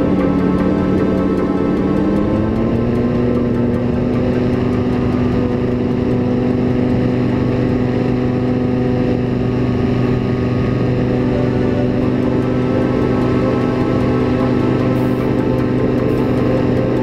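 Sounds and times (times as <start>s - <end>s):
paramotor engine droning: 0.0s - 17.0s.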